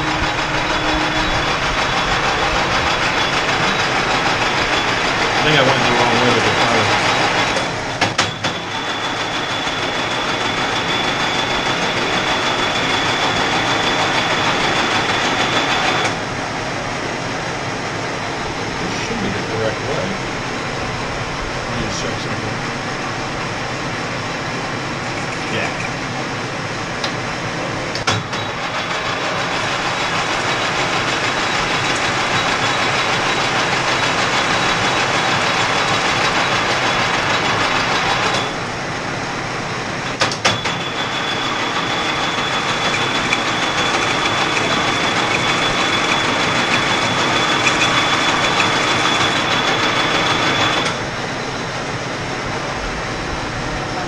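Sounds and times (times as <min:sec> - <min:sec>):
lathe cutting metal: 0:00.0 - 0:54.0
thin high whine: 0:00.0 - 0:54.0.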